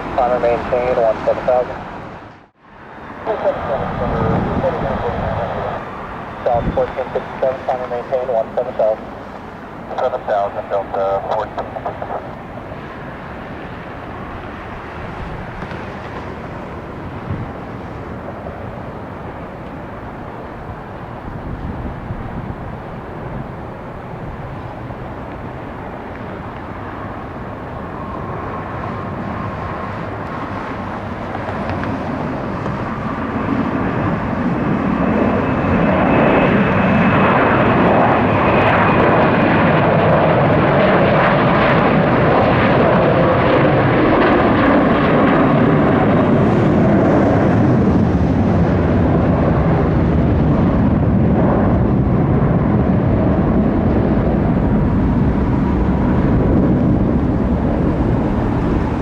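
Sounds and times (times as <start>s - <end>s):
high engine whine: 0.0s - 59.0s
jet engines at takeoff: 0.0s - 59.0s.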